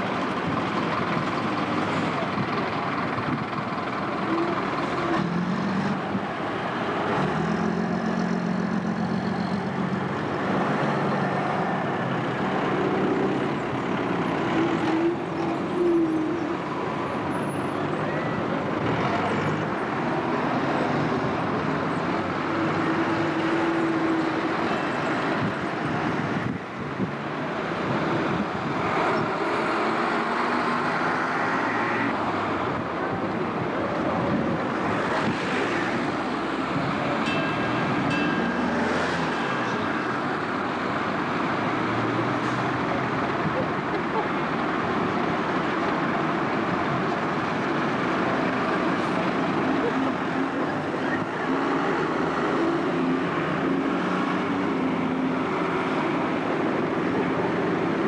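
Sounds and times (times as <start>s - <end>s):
cars passing: 0.0s - 58.0s
diesel bus engines running: 0.0s - 58.0s.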